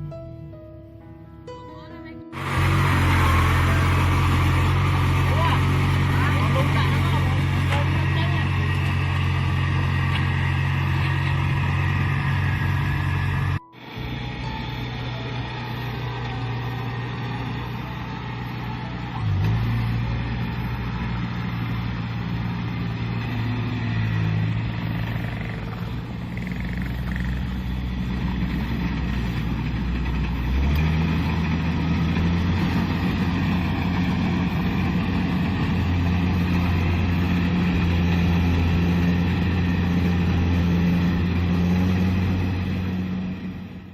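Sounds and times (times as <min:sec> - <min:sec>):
combine harvester diesel engine: 0:02.3 - 0:43.9.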